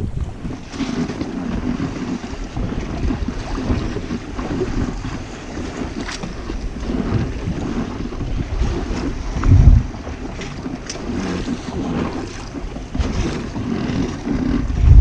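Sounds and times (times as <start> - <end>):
water washing under boat: 0.0 - 15.0
wind buffeting microphone: 0.0 - 15.0.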